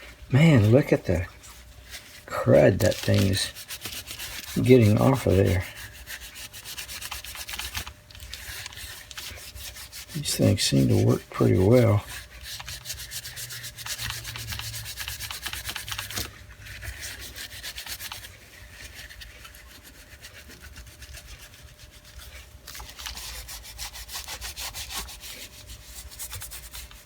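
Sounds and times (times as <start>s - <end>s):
wipe rubbing on drill body: 0.0s - 27.0s.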